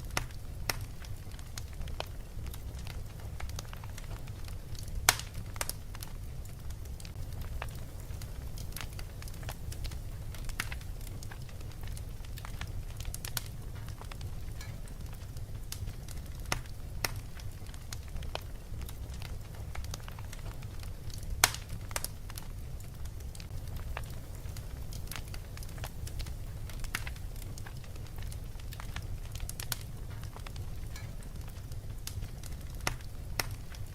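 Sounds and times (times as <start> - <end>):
fire crackling and popping: 0.0 - 33.9.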